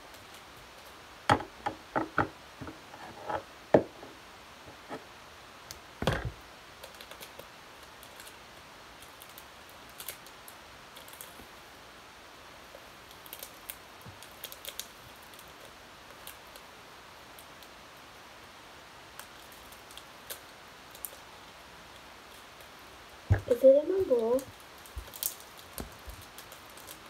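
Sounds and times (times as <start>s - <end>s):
room hiss: 0.0s - 27.0s.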